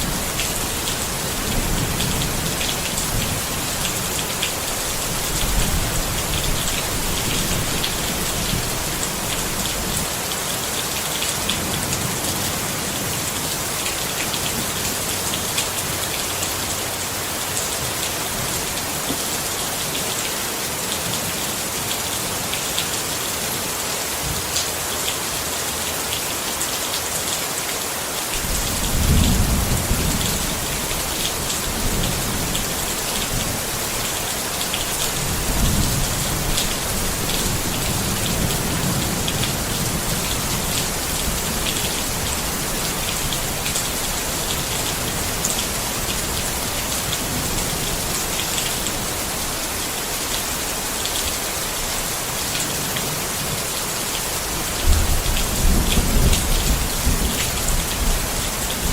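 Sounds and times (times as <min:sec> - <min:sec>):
rain drumming on a tent: 0:00.0 - 0:58.9.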